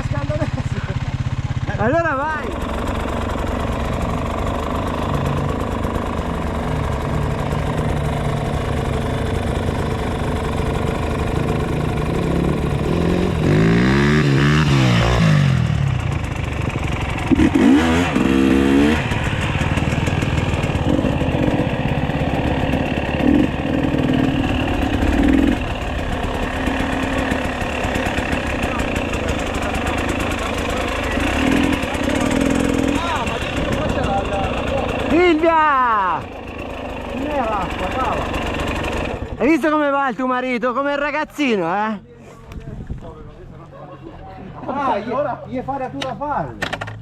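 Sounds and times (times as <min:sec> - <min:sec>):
dirt bike engines revving: 0:00.0 - 0:47.0.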